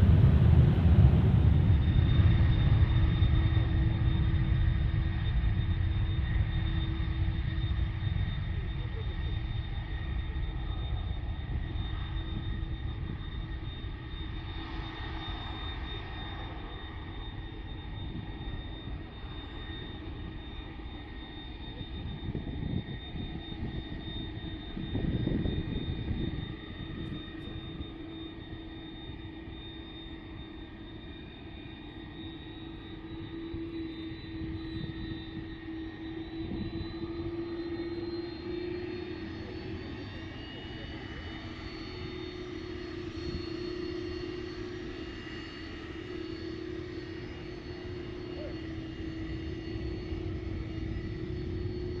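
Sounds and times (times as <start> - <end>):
jet engines whining and rumbling: 0.0 - 52.0.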